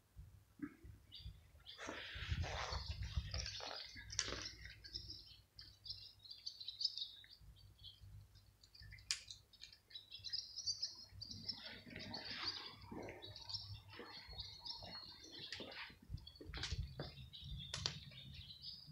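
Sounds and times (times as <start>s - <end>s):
small songbirds chirping: 0.6s - 18.9s.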